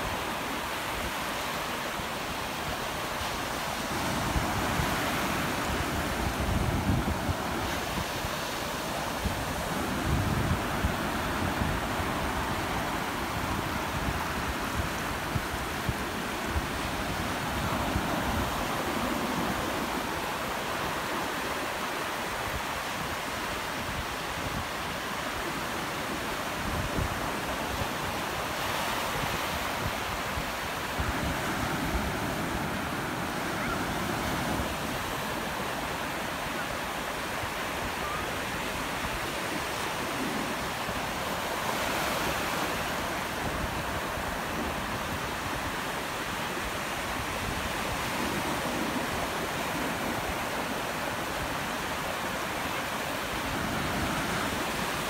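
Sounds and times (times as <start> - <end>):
waves breaking and washing in: 0.0 - 55.0.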